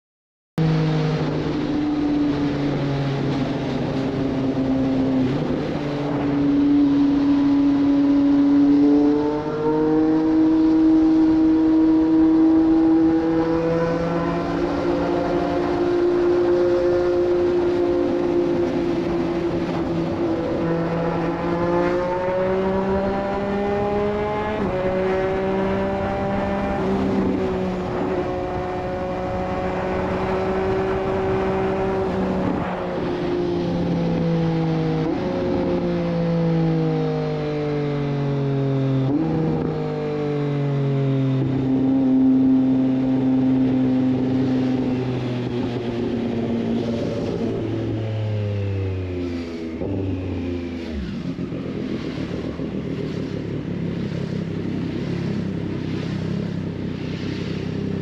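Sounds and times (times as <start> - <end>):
motorcycle engine revving: 0.6 - 58.0.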